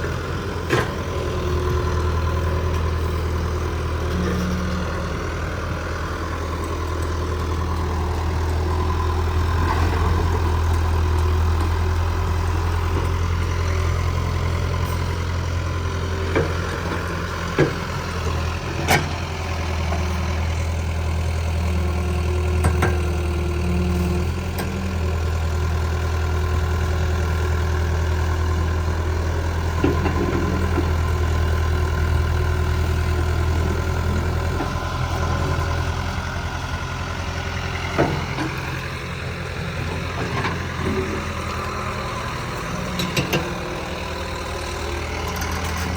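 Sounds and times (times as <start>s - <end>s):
heavy machine engine droning: 0.0s - 45.9s.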